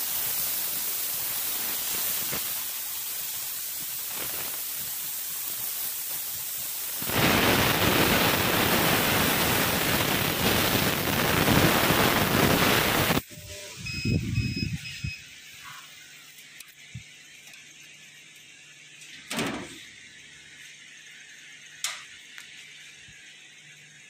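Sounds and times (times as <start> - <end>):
laser cutter hissing: 0.0 - 24.0.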